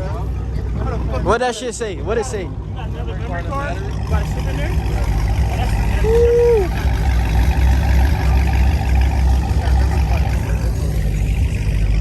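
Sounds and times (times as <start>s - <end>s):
crowd chatter: 0.0s - 12.0s
engines rumbling at idle: 0.0s - 12.0s.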